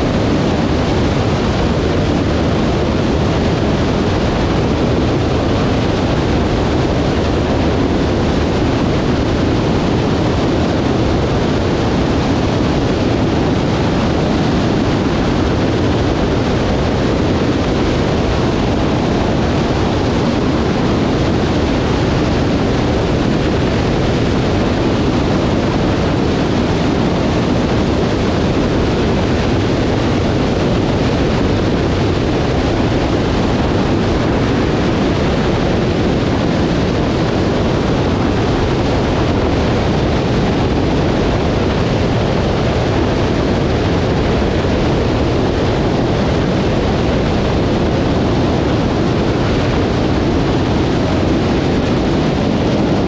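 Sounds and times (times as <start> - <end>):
light aircraft engine running: 0.0 - 53.0
wind rushing on microphone: 0.0 - 53.0.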